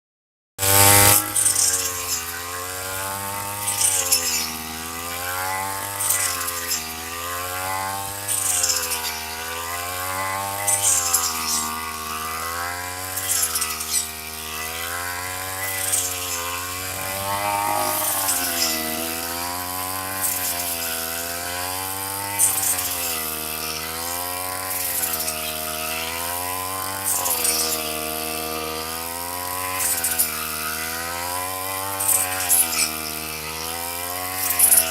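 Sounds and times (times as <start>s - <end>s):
cutter swishing through stalks: 0.6s - 34.9s
two-stroke engine running: 0.6s - 34.9s.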